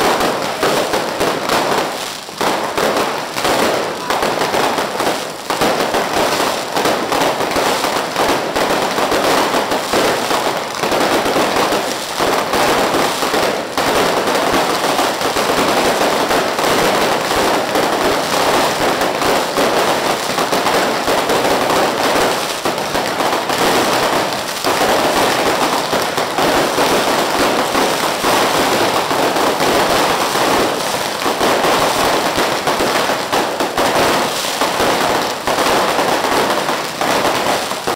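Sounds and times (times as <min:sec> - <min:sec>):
fireworks crackling bangs: 0:00.0 - 0:37.9.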